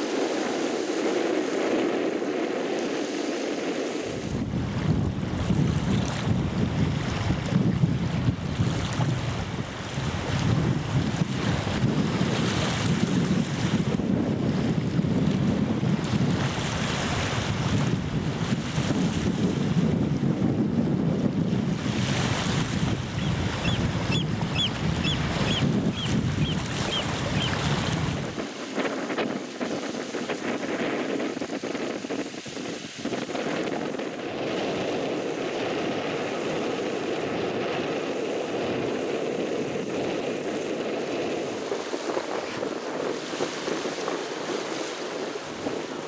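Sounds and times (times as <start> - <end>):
small waves washing on shore: 0.0 - 46.0
wind buffeting microphone: 0.0 - 46.0.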